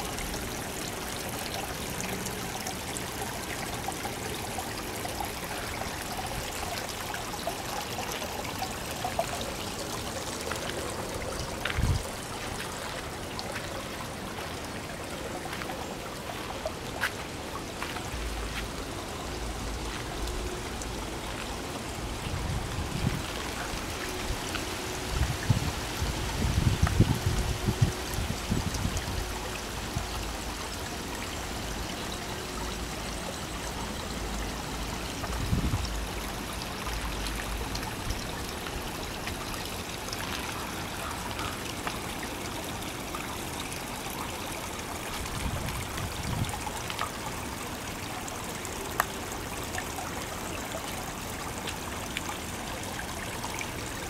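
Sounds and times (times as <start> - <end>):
waterfall splashing into pond: 0.0 - 54.0.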